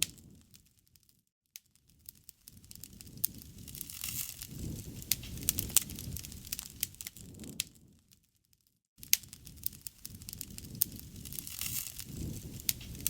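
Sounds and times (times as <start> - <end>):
low rumble of flames: 0.0 - 0.7, 1.8 - 8.2, 9.0 - 13.0
wood fire crackling and popping: 0.0 - 13.0.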